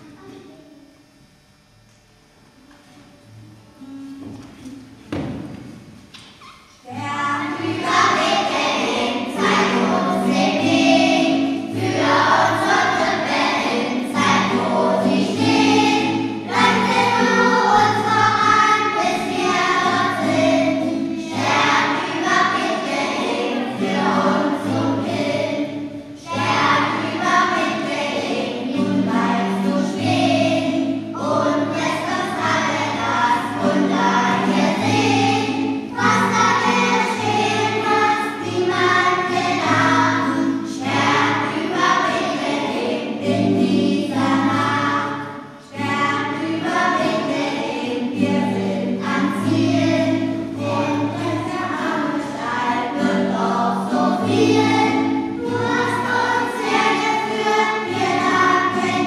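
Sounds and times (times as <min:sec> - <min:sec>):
choir singing: 0:07.4 - 0:59.0.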